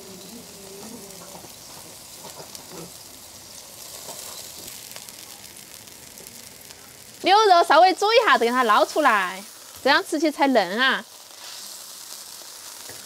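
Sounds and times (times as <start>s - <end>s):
broth boiling with hiss: 0.0s - 13.0s.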